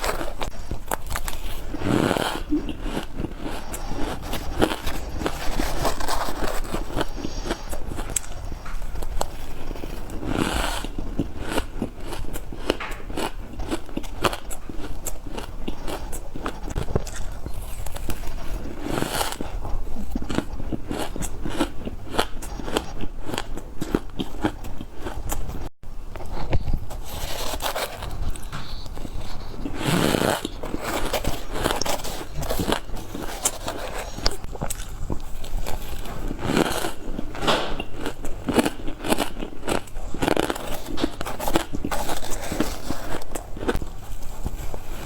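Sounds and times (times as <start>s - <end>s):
crunching ice being chewed: 0.0s - 45.0s.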